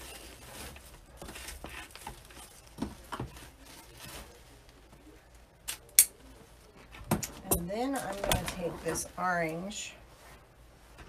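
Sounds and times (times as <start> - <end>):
ribbon rustling and crinkling: 0.0 - 11.0.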